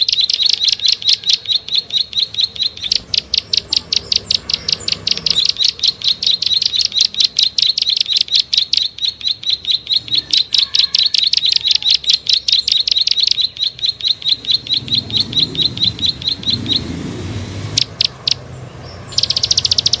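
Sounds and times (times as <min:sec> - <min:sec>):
bird rapid clicking call: 0:00.0 - 0:20.0.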